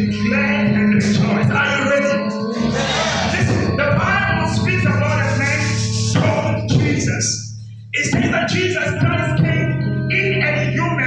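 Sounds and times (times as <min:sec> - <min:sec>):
electric keyboard chords: 0:00.0 - 0:11.0
person speaking over music: 0:00.0 - 0:11.0.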